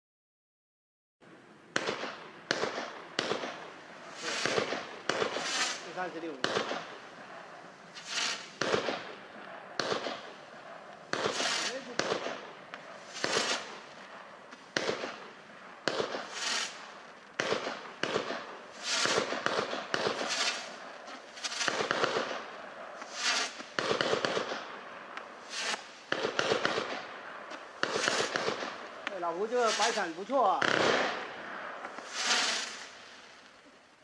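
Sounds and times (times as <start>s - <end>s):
firework launch bangs: 1.7s - 7.3s, 7.9s - 33.5s
firework stars hissing: 4.0s - 9.2s, 9.8s - 33.8s.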